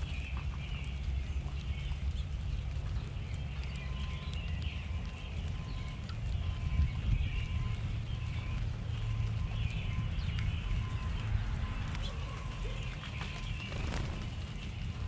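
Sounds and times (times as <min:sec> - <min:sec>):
birds chirping faintly: 0:00.0 - 0:15.0
steady low rumble: 0:00.0 - 0:15.0.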